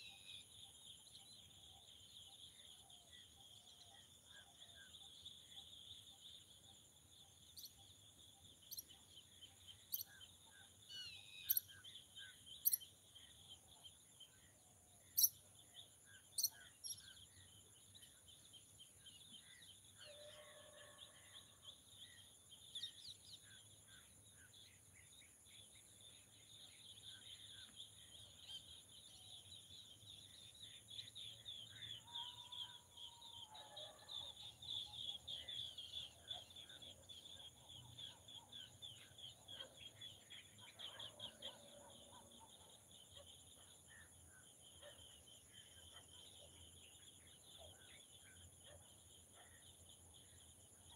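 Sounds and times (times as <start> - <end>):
bird chirping: 0.0 - 20.8, 21.6 - 50.9.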